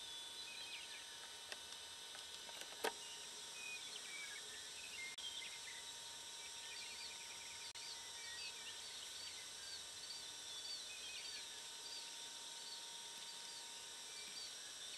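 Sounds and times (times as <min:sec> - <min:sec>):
faint bird chirps: 0:00.0 - 0:01.3, 0:03.0 - 0:14.9.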